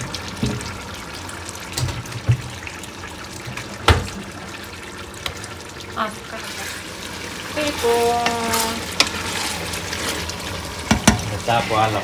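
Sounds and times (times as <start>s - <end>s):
stew simmering with watery hiss: 0.0s - 12.0s.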